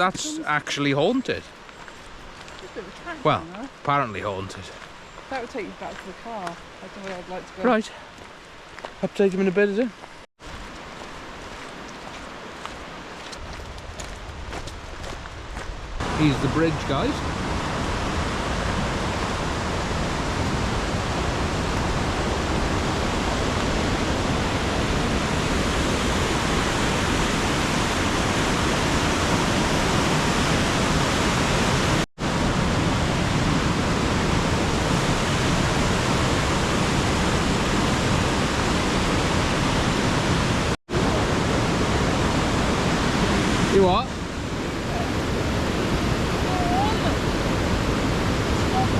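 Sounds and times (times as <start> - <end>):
river rushing: 0.0 - 14.2, 16.0 - 48.9.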